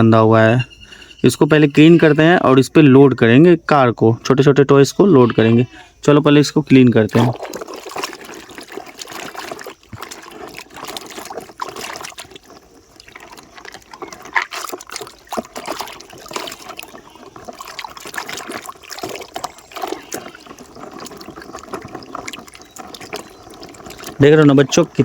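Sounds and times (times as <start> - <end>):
water splashing and trickling: 0.0 - 2.7, 5.0 - 25.0.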